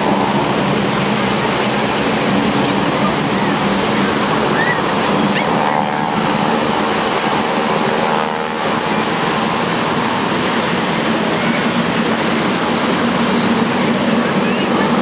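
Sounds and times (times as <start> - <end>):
propeller aircraft engines droning: 0.0 - 15.0
rush of wind: 0.0 - 15.0
surf noise: 0.0 - 15.0.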